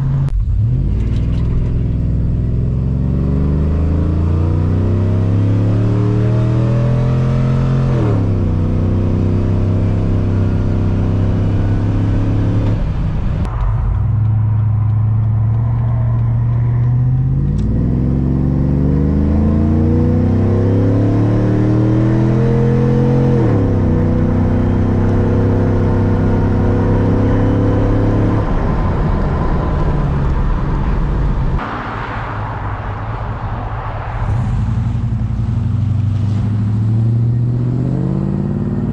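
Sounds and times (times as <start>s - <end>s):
truck engine accelerating hard: 0.0s - 38.9s.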